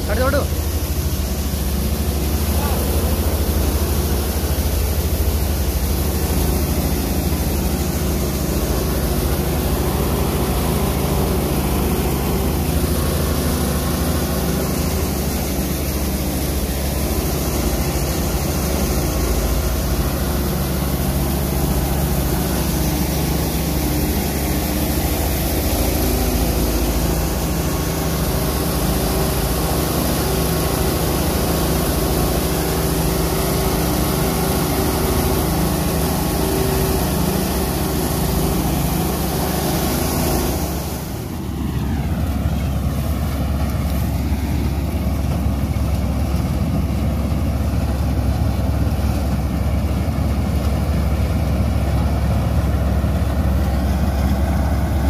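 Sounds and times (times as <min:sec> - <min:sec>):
combine harvester humming: 0:00.0 - 0:55.0
grain pouring into trailer: 0:00.0 - 0:55.0.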